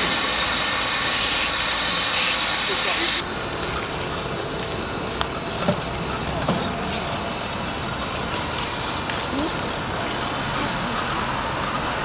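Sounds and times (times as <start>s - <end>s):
steam locomotive running: 0.0s - 12.0s.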